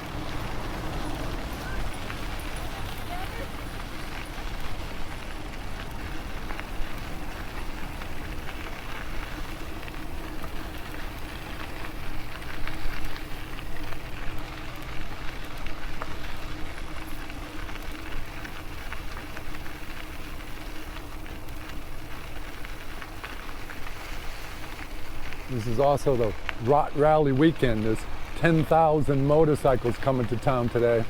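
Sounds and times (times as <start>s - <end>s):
tyres rolling: 0.0s - 31.0s
small ticks: 0.3s - 31.0s.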